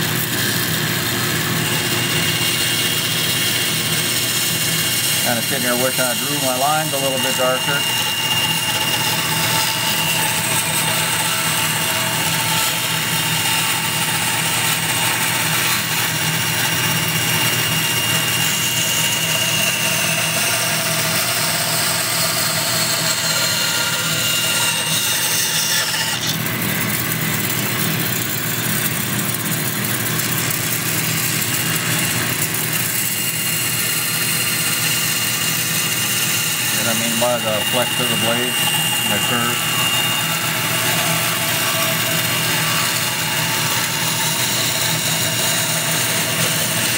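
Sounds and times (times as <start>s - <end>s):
bandsaw cutting wood: 0.0s - 46.9s.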